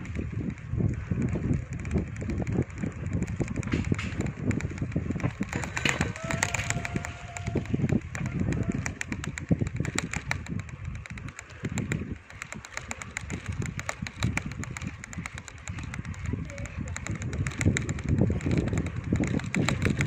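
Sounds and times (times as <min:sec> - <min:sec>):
bicycle clicking and rattling: 0:00.0 - 0:20.0
wind buffeting microphone: 0:00.0 - 0:20.0.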